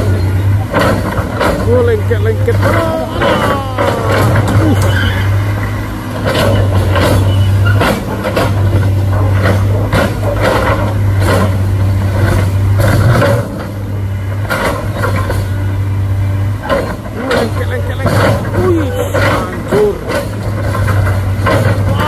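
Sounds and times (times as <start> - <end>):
sharp knocks and clanks: 0.0 - 15.7, 16.6 - 22.0
diesel engine humming: 0.0 - 22.0.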